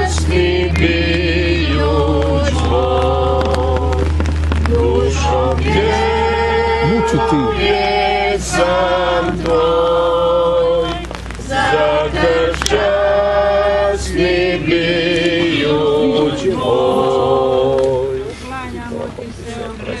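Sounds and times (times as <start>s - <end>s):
congregation singing a hymn: 0.0s - 20.0s.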